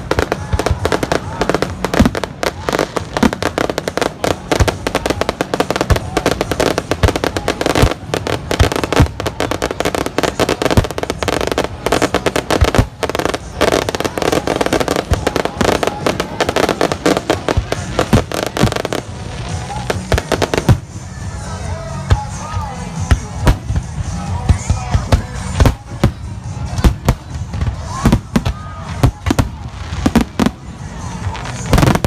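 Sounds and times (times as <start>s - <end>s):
fireworks cracking and banging: 0.0s - 21.4s, 22.0s - 32.0s.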